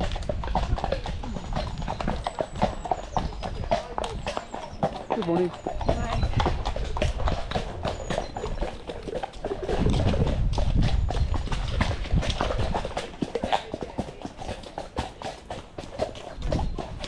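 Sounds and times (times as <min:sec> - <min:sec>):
horse hooves on muddy lane: 0:00.0 - 0:17.0.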